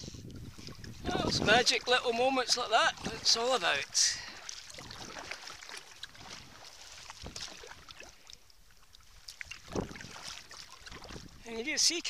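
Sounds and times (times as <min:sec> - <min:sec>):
water lapping against hull: 0:00.0 - 0:12.0
paddle splashing in water: 0:00.1 - 0:12.0.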